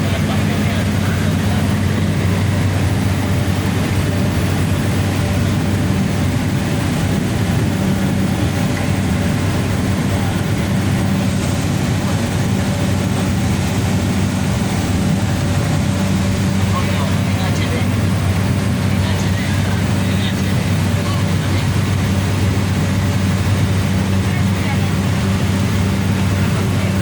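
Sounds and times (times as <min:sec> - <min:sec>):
low hum: 0:00.0 - 0:27.0
turboprop engine drone: 0:00.0 - 0:27.0.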